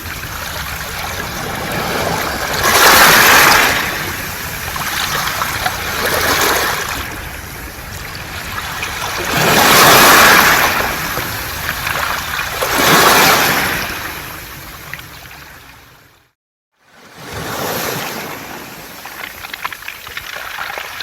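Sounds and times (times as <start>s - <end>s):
waves washing onto pebbles: 0.0s - 15.2s, 17.2s - 21.0s.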